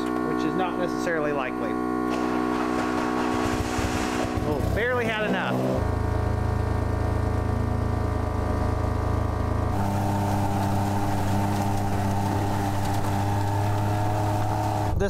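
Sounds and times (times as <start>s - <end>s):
utility vehicle engine running: 0.0s - 15.0s
vehicle driving fast across field: 1.6s - 15.0s.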